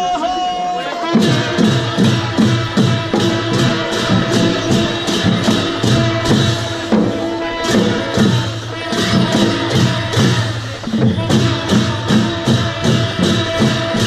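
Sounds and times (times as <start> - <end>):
cymbals clashing: 0.0 - 14.0
drum strokes: 0.0 - 14.0
held musical note: 0.8 - 14.0.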